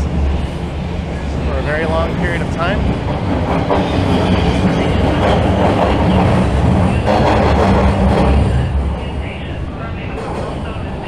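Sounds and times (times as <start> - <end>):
subway train rumbling past: 0.0 - 11.0.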